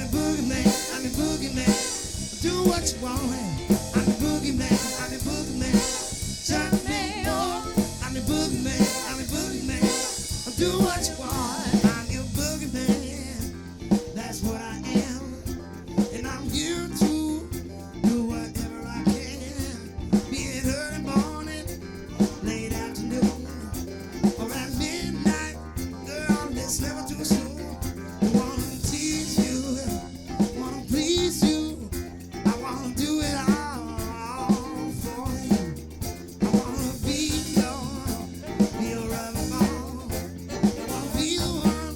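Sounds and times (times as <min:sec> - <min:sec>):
drum kit beat: 0:00.0 - 0:41.9
live band playing upbeat song: 0:00.0 - 0:41.9.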